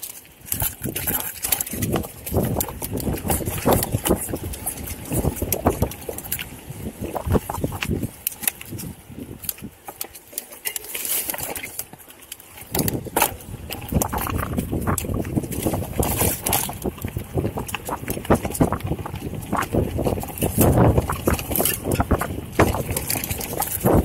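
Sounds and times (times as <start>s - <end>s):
wind buffeting microphone: 0.0s - 10.1s, 11.7s - 24.0s
footsteps on stony ground: 0.0s - 24.0s.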